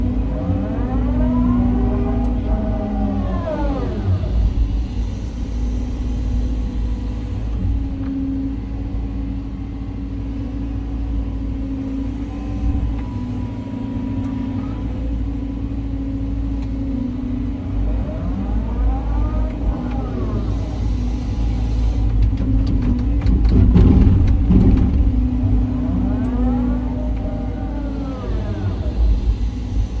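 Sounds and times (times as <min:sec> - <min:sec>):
excavator diesel engine rumbling: 0:00.0 - 0:30.0
hydraulic whine: 0:00.0 - 0:30.0.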